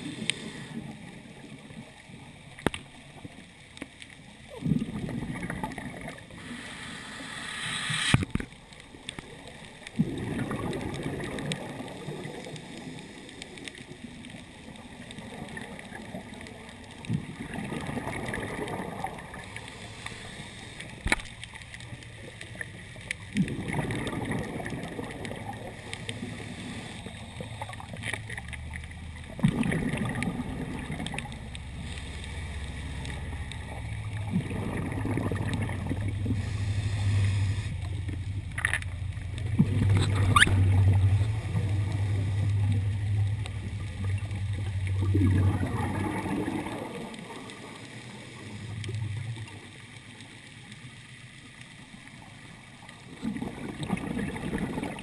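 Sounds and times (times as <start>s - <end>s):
exhaled bubbles gurgling underwater: 0.0s - 55.0s.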